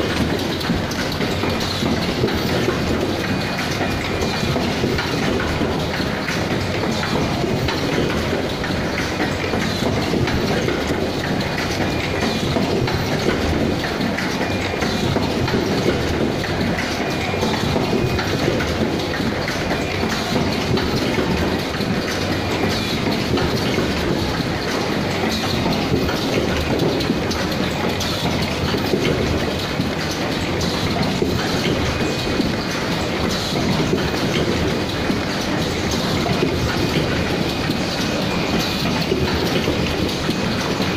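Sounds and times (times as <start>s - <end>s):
machine clattering and clacking: 0.0s - 40.9s.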